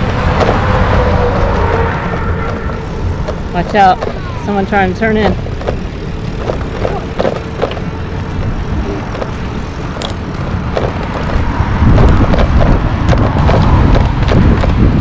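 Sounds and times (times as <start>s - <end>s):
low rumble: 0.0s - 15.0s
road traffic noise: 0.0s - 15.0s.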